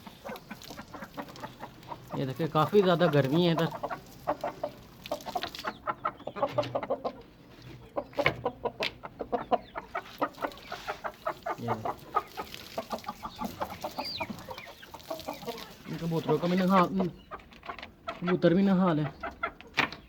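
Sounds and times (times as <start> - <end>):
chickens clucking: 0.0 - 20.0
other birds calling: 0.0 - 20.0.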